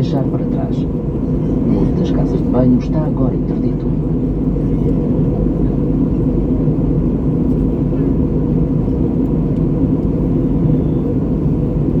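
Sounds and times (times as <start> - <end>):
jet engine and airflow in cabin: 0.0 - 12.0.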